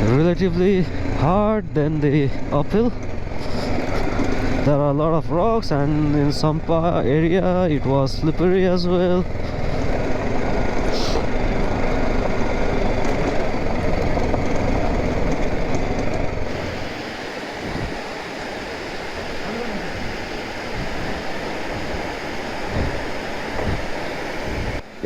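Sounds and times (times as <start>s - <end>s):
motorcycle engine: 0.0s - 24.9s
road and wind rumble: 0.0s - 25.0s
steady rushing noise: 0.0s - 25.0s.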